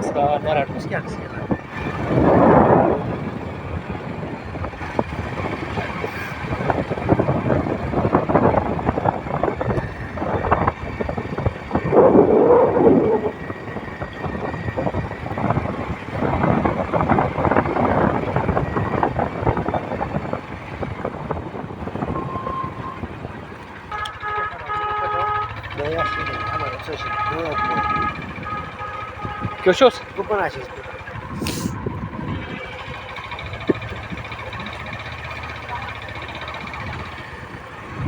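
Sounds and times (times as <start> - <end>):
wind buffeting the microphone: 0.0 - 23.9, 27.3 - 38.0
motorcycle running: 0.0 - 38.0.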